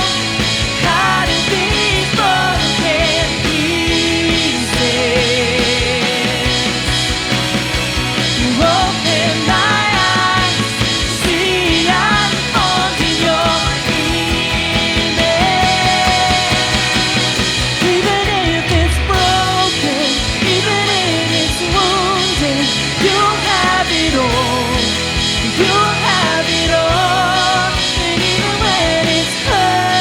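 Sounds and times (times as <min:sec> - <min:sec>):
person singing: 0:00.0 - 0:07.4, 0:08.2 - 0:30.0
drums: 0:00.0 - 0:30.0
rock band playing: 0:00.0 - 0:30.0.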